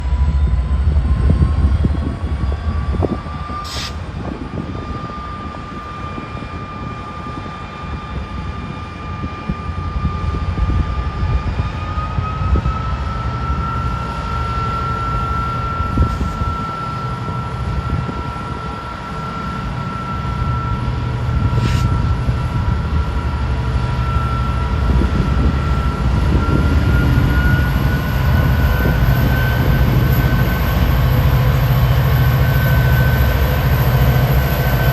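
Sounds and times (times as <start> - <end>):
diesel locomotive engine rumble: 0.0 - 34.9
turbocharger whine climbing: 0.0 - 34.9.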